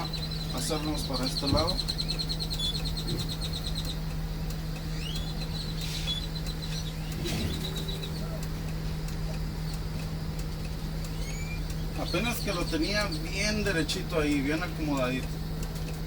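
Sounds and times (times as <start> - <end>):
birds chirping faintly: 0.0 - 15.6
bus diesel engine humming: 0.0 - 16.0.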